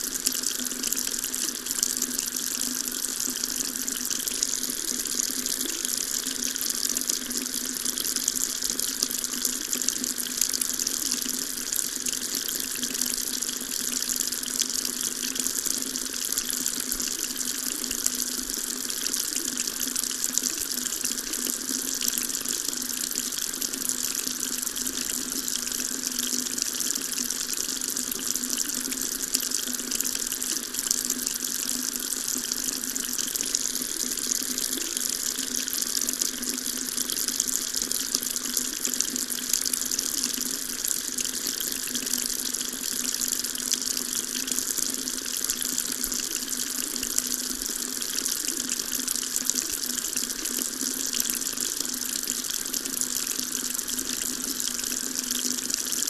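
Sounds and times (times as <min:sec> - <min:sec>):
water tap running into sink: 0:00.0 - 0:56.0.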